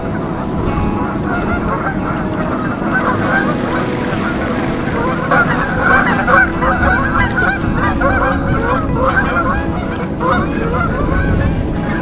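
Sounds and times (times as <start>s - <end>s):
waterfowl honking: 0.0s - 12.0s.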